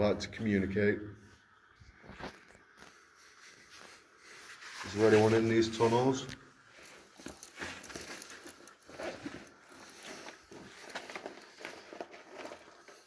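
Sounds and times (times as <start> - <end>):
footsteps: 1.8 - 13.0
clothing rustling: 2.0 - 13.0.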